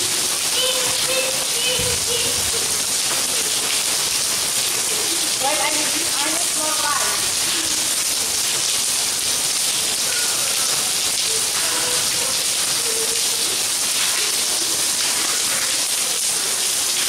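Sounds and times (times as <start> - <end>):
rain falling on paving: 0.0 - 17.0.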